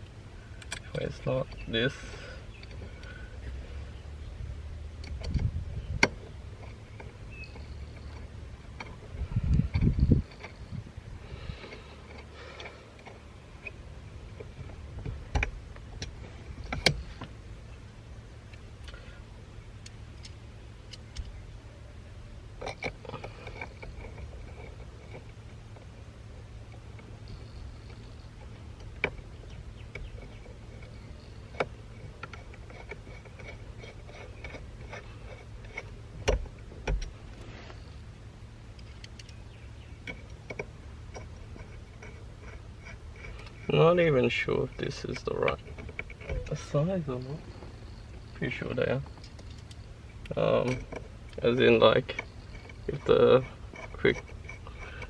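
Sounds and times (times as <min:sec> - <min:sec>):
low hum: 0:00.0 - 0:55.0
metal parts clicking and knocking: 0:00.6 - 0:03.5, 0:04.9 - 0:17.4, 0:19.8 - 0:21.4, 0:22.5 - 0:38.0, 0:38.6 - 0:55.0
faint scraping: 0:00.9 - 0:19.3, 0:20.9 - 0:55.0.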